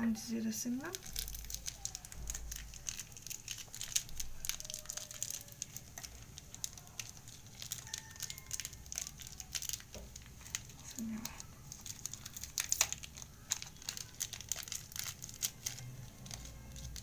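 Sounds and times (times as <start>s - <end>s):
foil wrapper crinkling: 0.7s - 17.0s.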